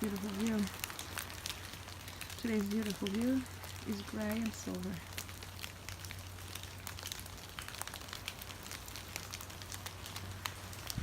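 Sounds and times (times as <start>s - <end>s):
raindrops ticking: 0.0s - 11.0s.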